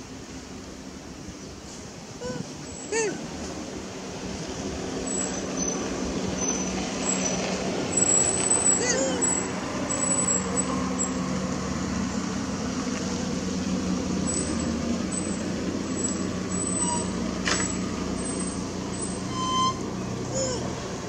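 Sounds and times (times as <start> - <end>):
traffic engine hum: 0.0 - 21.0.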